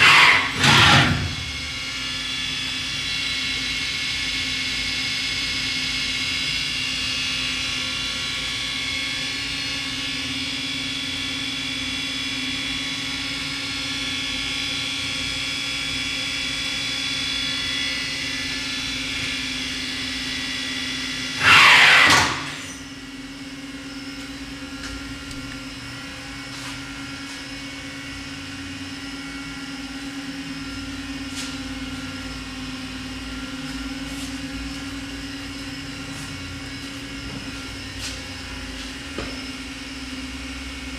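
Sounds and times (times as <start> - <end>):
machine hum: 0.0 - 40.9
machine spindle whine: 0.0 - 40.9.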